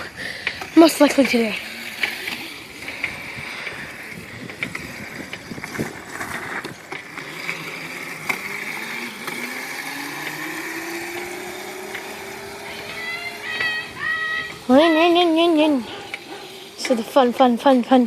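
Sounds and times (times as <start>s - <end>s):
faint motor tone rising: 0.0s - 17.2s
bicycle clicking and rattling: 0.0s - 18.0s.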